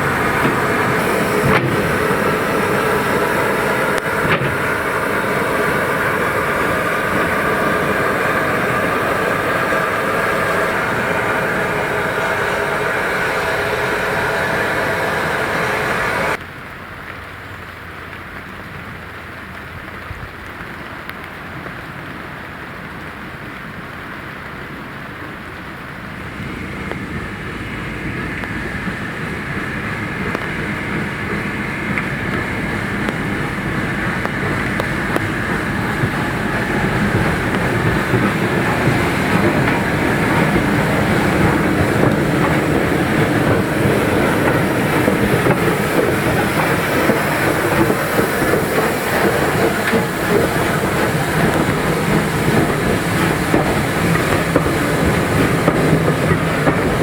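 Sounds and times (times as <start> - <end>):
train wheels clattering on rails: 0.0 - 16.4, 25.7 - 57.0.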